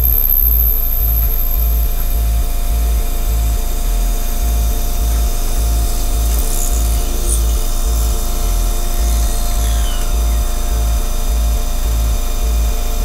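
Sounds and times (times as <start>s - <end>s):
drill spindle whine: 0.0s - 13.0s
music with pulsing bass beat: 0.0s - 13.0s.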